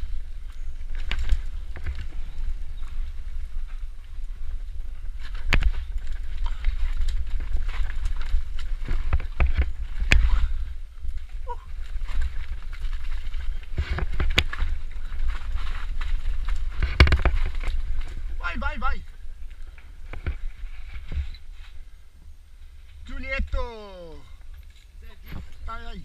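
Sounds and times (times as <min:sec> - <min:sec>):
bike rattling: 0:00.0 - 0:26.0
bike tyres on dirt and leaves: 0:00.0 - 0:26.0.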